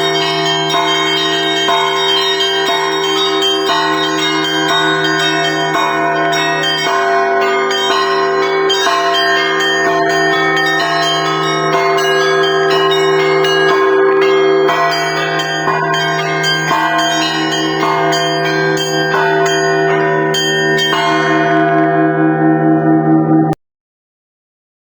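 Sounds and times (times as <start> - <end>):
small bells struck quickly: 0.0 - 22.0
large bells ringing: 0.0 - 23.6.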